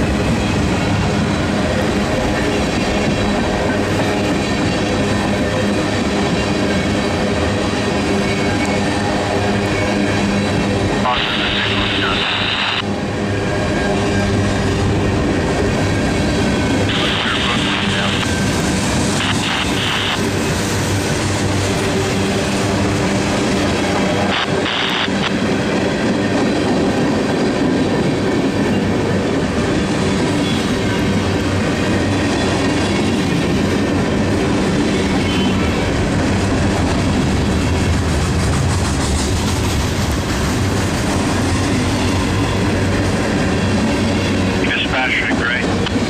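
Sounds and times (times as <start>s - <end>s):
freight train wheels on rails: 0.0s - 46.0s.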